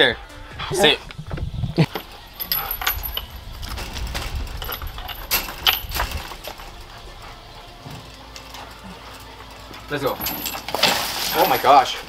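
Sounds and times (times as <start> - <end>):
metal gate latch and chain rattling: 1.9 - 12.0.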